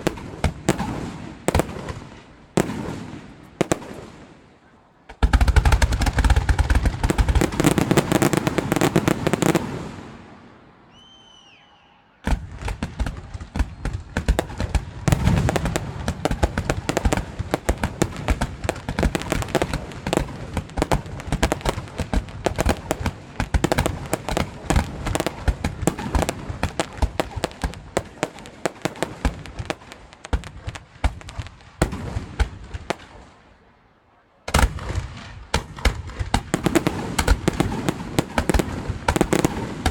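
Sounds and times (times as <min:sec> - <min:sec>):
fireworks crackling and popping: 0:00.0 - 0:10.5, 0:12.2 - 0:33.5, 0:34.5 - 0:39.9.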